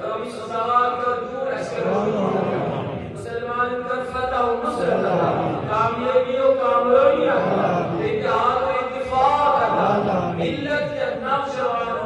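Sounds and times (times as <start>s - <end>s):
man chanting religious verse: 0.0s - 12.0s.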